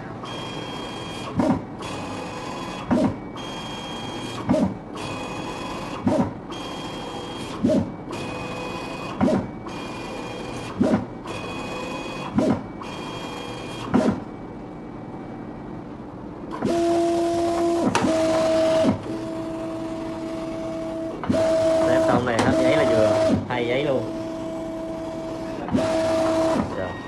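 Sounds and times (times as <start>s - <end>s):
plotter carriage motor whine: 0.0s - 14.3s, 16.5s - 27.0s.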